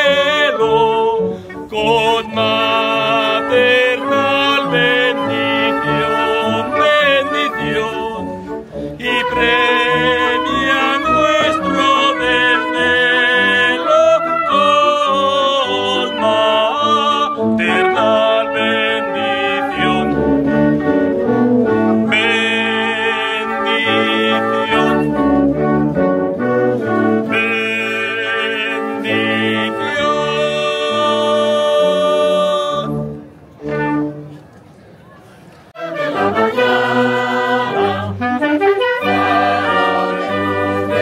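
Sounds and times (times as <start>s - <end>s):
voices singing: 0.0s - 25.3s, 27.2s - 33.2s, 35.8s - 41.0s
brass band playing a hymn: 0.0s - 34.6s, 35.7s - 41.0s.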